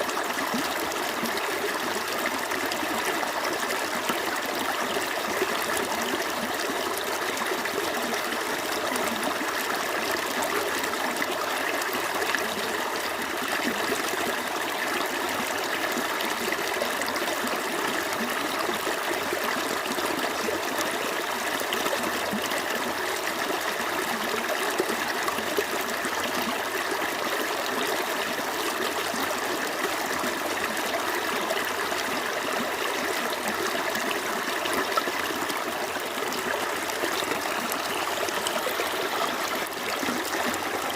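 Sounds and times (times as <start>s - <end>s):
stream trickling over rocks: 0.0s - 40.9s.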